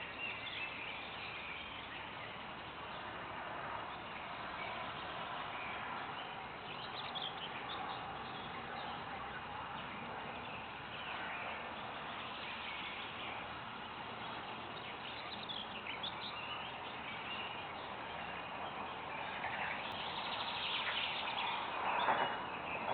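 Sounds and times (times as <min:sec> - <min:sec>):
birds chirping: 0:00.0 - 0:22.9
steady background hiss: 0:00.0 - 0:22.9.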